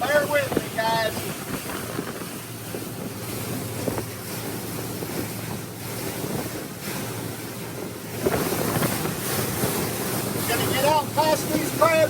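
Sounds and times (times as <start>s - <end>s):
choppy water slapping a hull: 0.0s - 12.0s
outboard engines droning: 0.0s - 12.0s
wind buffeting the microphone: 0.0s - 12.0s.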